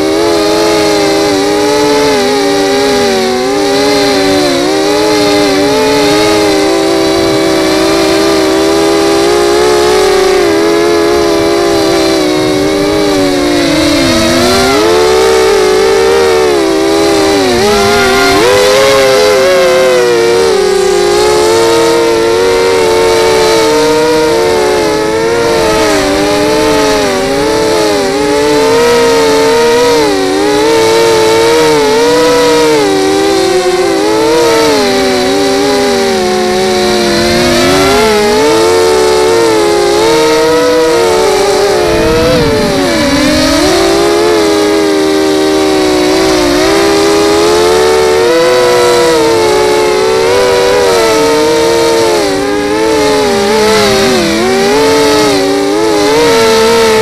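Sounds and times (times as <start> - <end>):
quadcopter motors buzzing whine: 0.0 - 57.0.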